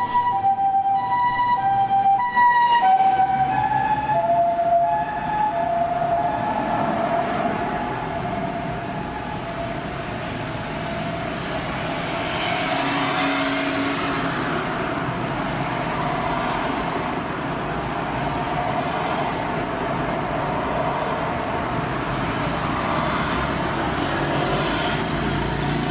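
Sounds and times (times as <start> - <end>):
vehicle passing: 0.0 - 25.9.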